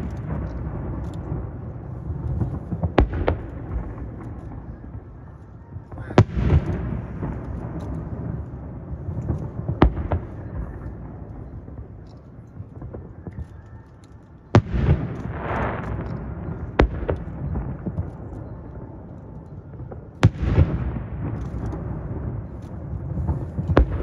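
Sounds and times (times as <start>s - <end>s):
fireworks bangs: 0.0s - 13.7s, 14.5s - 18.7s, 19.8s - 24.0s.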